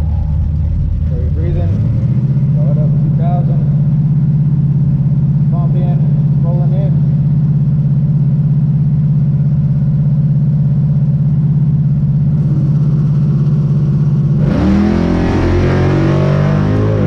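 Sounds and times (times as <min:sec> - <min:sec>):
car engine idling and accelerating: 0:00.0 - 0:17.0.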